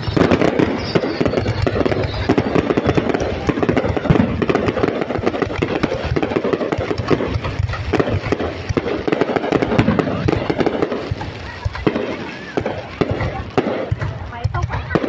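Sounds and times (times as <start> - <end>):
fireworks crackling bursts: 0.0 - 15.0.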